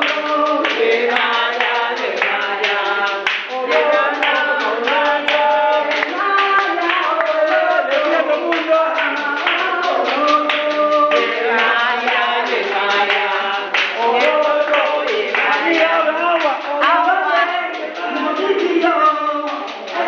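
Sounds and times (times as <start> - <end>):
group clapping: 0.0 - 20.0
woman chanting into a microphone: 2.5 - 20.0.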